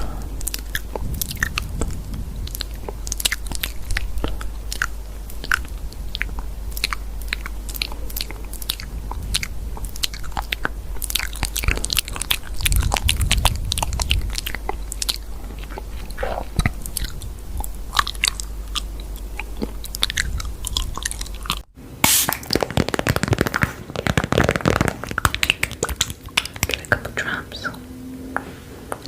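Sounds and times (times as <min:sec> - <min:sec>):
crunching and chewing: 0:00.0 - 0:27.8.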